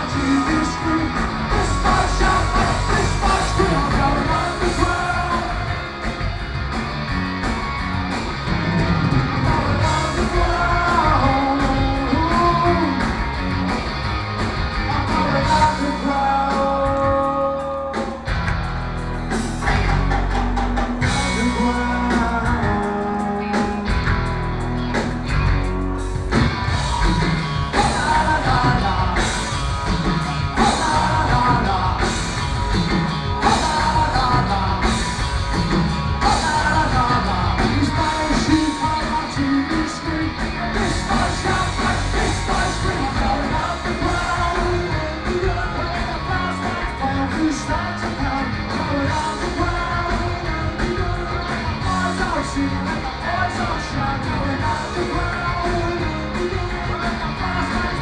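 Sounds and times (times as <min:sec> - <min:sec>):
lead vocals: 0:00.0 - 0:06.9, 0:08.1 - 0:18.4, 0:19.6 - 0:24.3, 0:26.7 - 0:58.0
drum kit: 0:00.0 - 0:58.0
electric guitars: 0:00.0 - 0:58.0
live rock band playing: 0:00.0 - 0:58.0.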